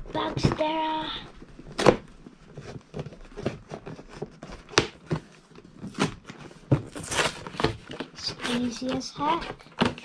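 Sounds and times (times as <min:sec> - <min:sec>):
cardboard scraping: 0:00.0 - 0:10.0.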